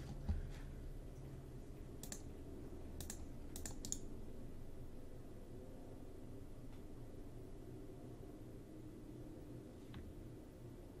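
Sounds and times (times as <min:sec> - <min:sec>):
low pulsing hum: 0:00.0 - 0:11.0.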